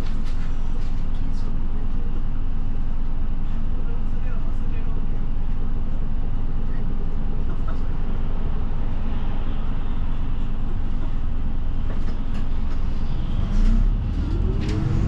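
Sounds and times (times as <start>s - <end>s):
bus diesel engine rumble: 0.0s - 15.0s
road noise: 0.0s - 15.0s.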